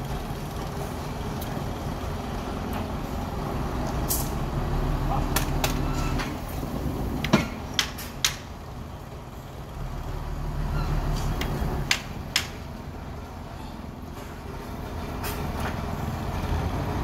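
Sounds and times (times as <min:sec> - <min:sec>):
dump truck engine running: 0:00.0 - 0:17.0.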